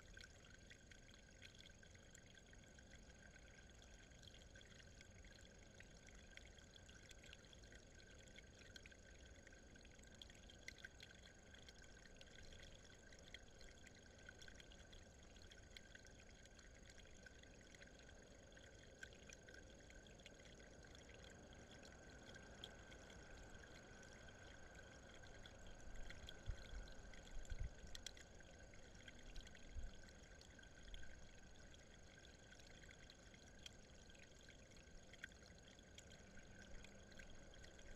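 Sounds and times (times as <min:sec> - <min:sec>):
faint steady hiss: 0:00.0 - 0:37.9
faint ticks: 0:00.0 - 0:37.9.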